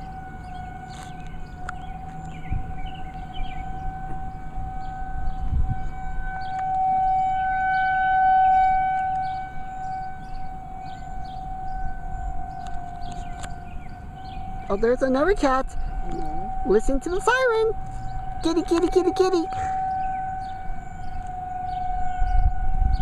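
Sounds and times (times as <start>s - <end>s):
tornado warning siren steady tone: 0.0s - 23.0s.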